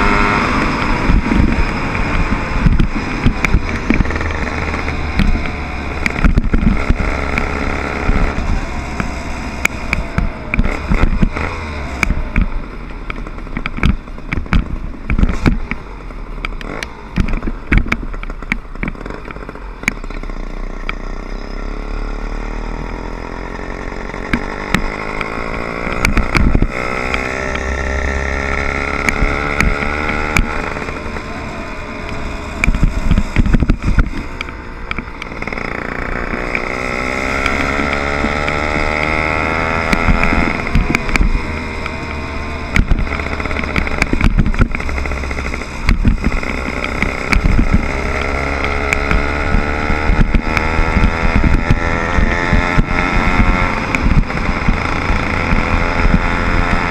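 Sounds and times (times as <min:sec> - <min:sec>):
small motorbike engine: 0:00.0 - 0:15.8, 0:16.4 - 0:56.9.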